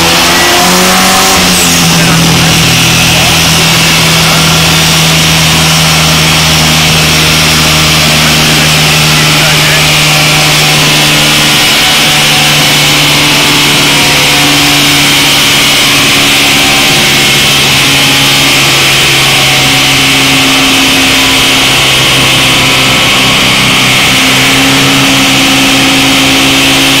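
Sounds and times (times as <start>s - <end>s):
turbocharged car engine running loudly: 0.0s - 27.0s.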